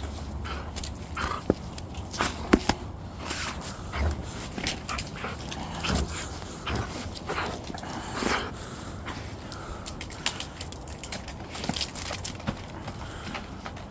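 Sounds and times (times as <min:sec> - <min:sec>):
dogs playing: 0:00.0 - 0:13.9.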